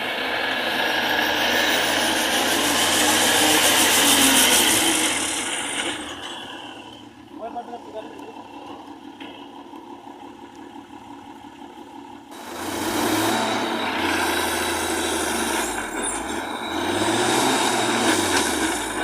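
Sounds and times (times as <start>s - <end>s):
heavy diesel engine revving: 0.0s - 19.0s.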